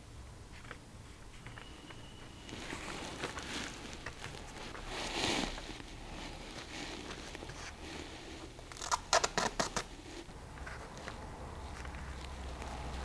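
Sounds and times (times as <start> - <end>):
paper rustling: 0.5 - 13.0.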